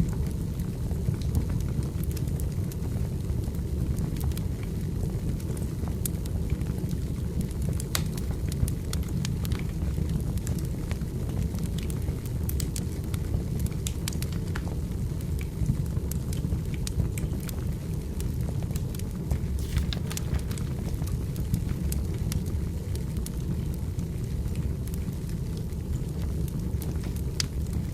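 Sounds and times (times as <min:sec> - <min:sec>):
fire rumbling: 0:00.0 - 0:27.9
firewood crackling and popping: 0:00.0 - 0:27.9.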